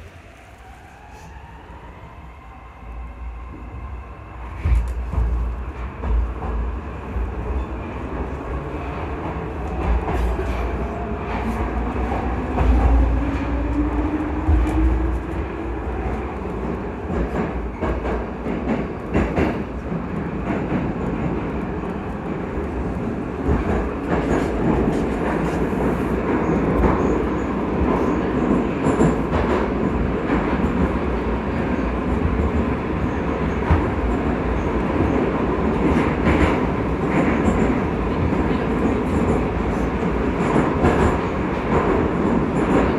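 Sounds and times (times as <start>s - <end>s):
train low rumble: 0.0s - 42.9s.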